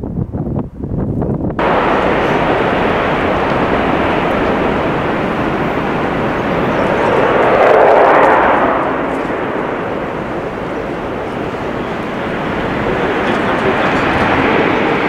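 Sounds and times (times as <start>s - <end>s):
jet engines at takeoff thrust: 1.4s - 15.0s.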